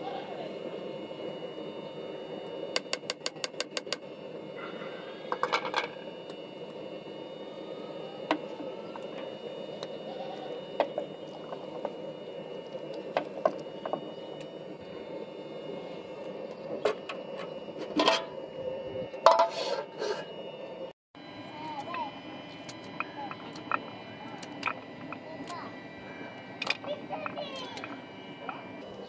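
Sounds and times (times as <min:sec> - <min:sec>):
steady stove noise: 0:00.0 - 0:29.0.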